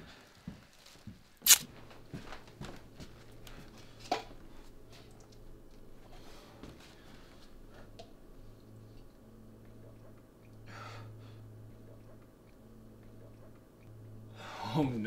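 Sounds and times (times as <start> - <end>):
low steady hum: 1.6 - 15.0.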